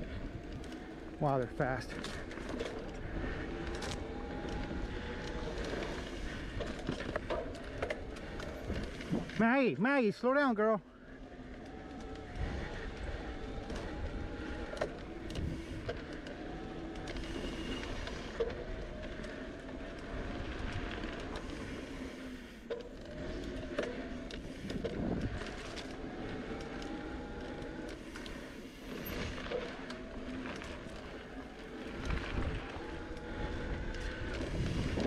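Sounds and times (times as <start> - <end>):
bike rattling over bumps: 0.0 - 9.7, 10.9 - 35.0
bicycle tyres on dirt trail: 0.0 - 35.0.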